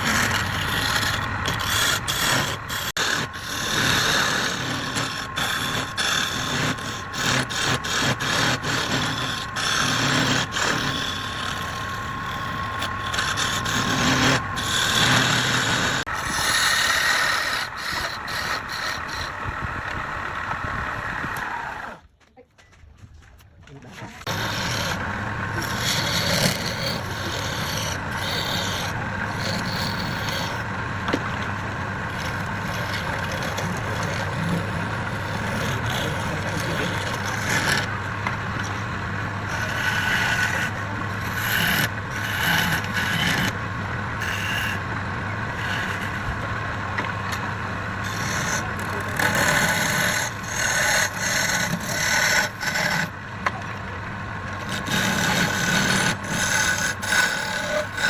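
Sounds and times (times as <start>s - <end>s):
wood lathe humming: 0.0s - 22.0s, 24.2s - 58.0s
tool scraping spinning wood: 0.0s - 22.1s, 23.8s - 58.0s.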